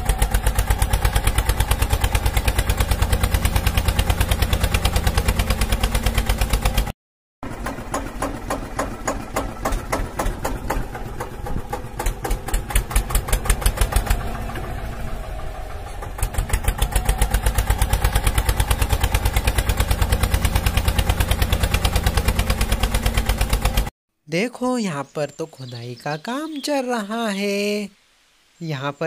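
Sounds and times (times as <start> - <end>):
tractor engine idling: 0.0 - 23.9.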